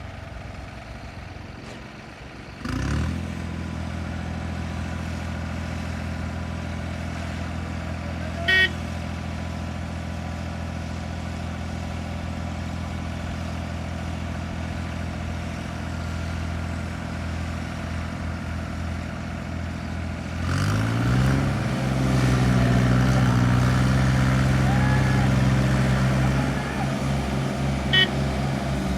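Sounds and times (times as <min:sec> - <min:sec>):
tractor diesel engine: 0:00.0 - 0:28.9.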